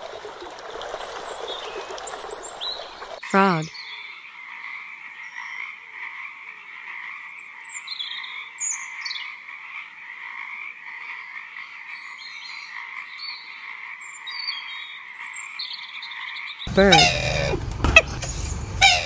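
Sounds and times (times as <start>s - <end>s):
chorus of frogs calling: 3.2s - 19.0s.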